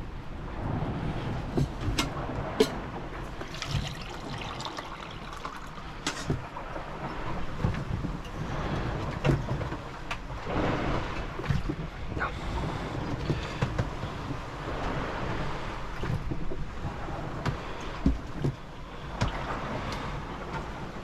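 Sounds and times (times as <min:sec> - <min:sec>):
water rushing along hull: 0:00.0 - 0:21.0
wind buffeting microphone: 0:00.0 - 0:21.0
sharp knocks from boat: 0:01.4 - 0:04.0, 0:06.0 - 0:21.0.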